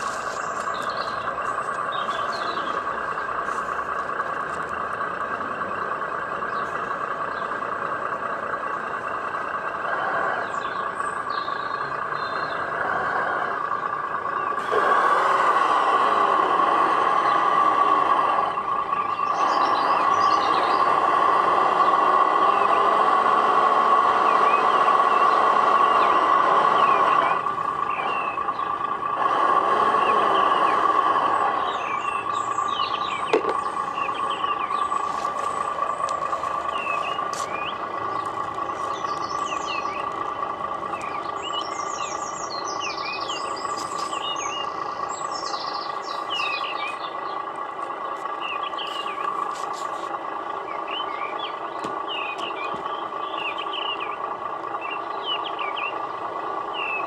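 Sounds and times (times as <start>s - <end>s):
simulated diesel engine sound: 0.0s - 57.0s
small birds chirping: 0.0s - 57.0s.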